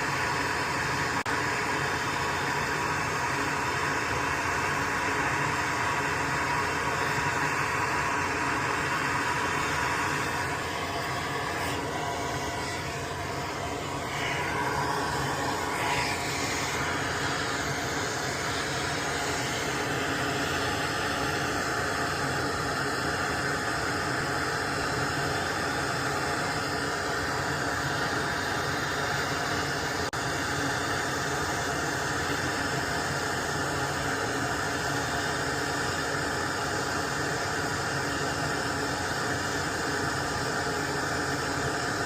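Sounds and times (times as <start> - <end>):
electric blower hissing: 0.0 - 34.6.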